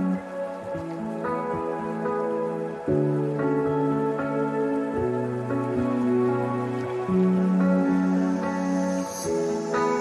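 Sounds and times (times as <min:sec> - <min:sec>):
calm background music: 0:00.0 - 0:10.0.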